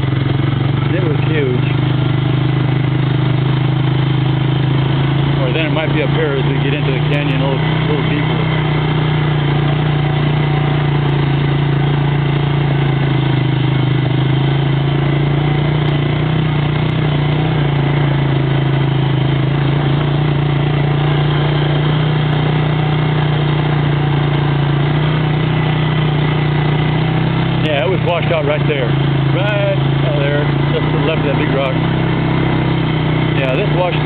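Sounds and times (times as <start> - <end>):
quad bike engine running: 0.0 - 34.0.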